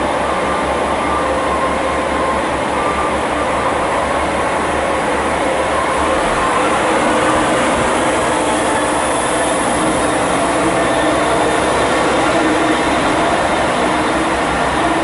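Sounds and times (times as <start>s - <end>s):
diesel railcar engine: 0.0s - 15.0s
train wheels running: 0.0s - 15.0s.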